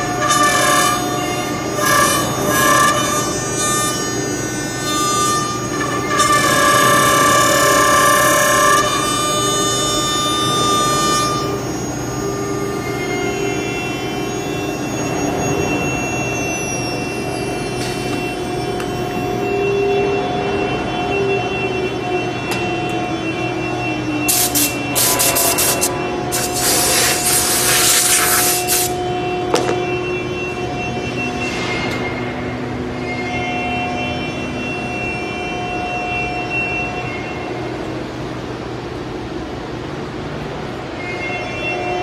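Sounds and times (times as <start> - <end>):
cnc router spindle whining: 0.0 - 42.0.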